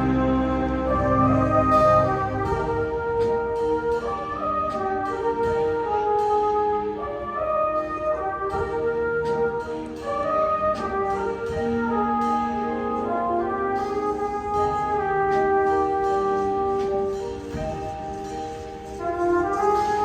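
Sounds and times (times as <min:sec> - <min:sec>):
light percussion strokes: 0:00.0 - 0:20.0
wind band playing chords: 0:00.0 - 0:20.0.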